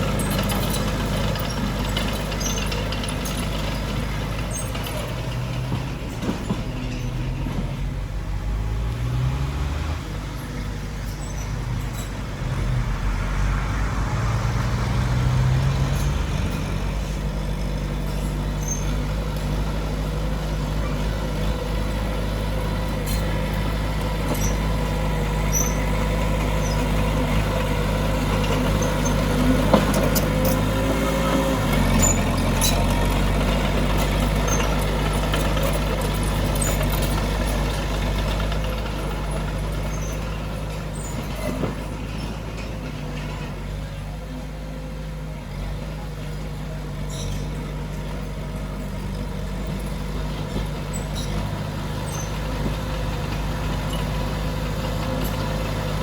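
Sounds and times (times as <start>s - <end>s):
heavy diesel machinery engine: 0.0s - 56.0s.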